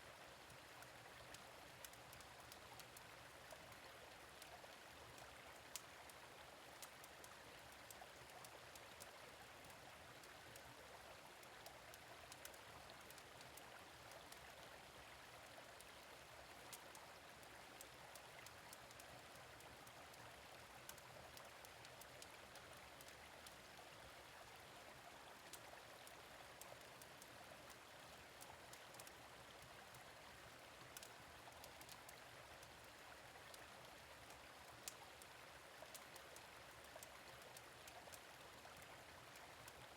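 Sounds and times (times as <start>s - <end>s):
gentle stream running: 0.0s - 39.9s.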